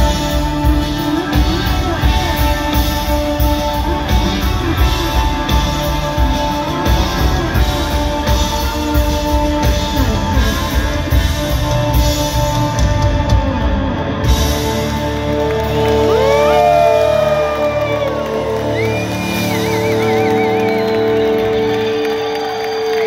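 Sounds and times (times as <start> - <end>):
drums: 0.0 - 23.0
rock band playing loud: 0.0 - 23.0.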